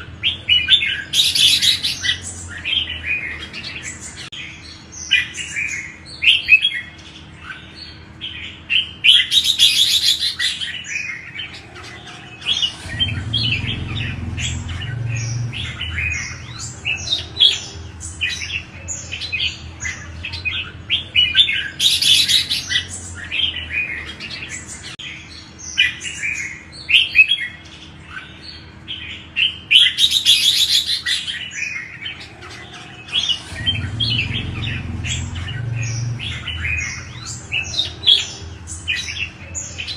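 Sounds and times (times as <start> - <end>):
birds singing whistled phrases: 0.0 - 39.9.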